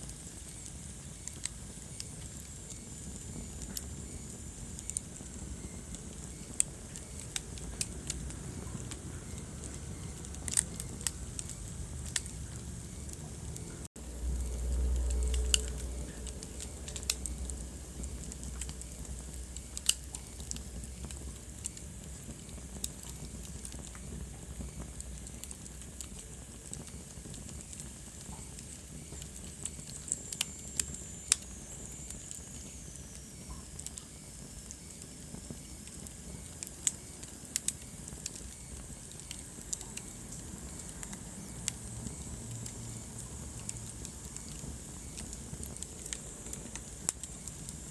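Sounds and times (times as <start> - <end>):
low rumble of flames: 0.0 - 47.9
wood fire crackling: 0.0 - 47.9.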